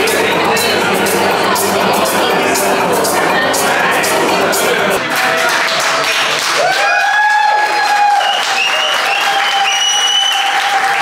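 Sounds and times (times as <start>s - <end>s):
crowd clapping and cheering: 0.0s - 11.0s.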